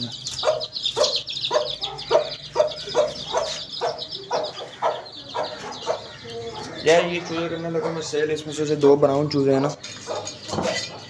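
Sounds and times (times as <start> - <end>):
chicks peeping: 0.0 - 11.0
hen clucking: 0.0 - 11.0.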